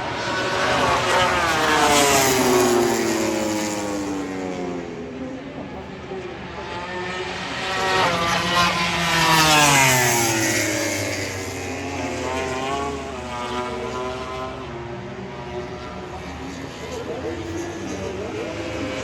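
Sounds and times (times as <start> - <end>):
race motorcycles passing: 0.0 - 19.0.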